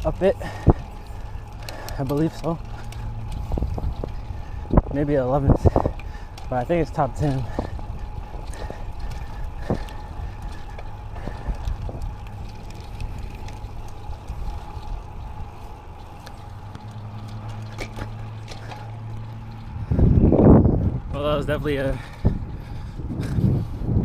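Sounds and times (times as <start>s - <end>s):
bike clicks and knocks: 0.0s - 23.6s
steady hum: 0.0s - 24.0s
tyre and wind rumble: 0.0s - 24.0s.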